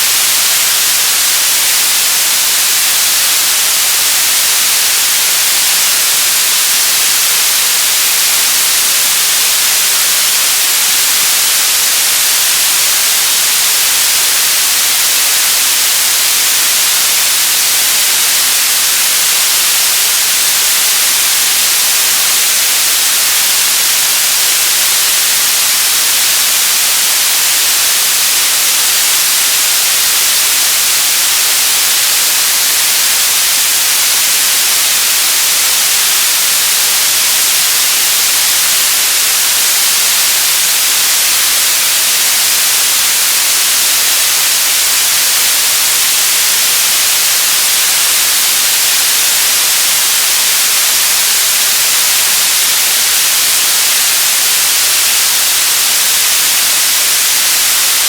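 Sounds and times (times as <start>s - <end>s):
television static hiss: 0.0s - 58.0s.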